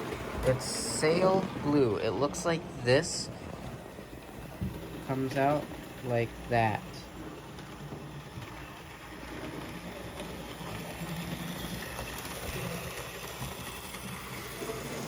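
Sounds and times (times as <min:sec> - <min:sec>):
model train whirring: 0:00.0 - 0:15.0.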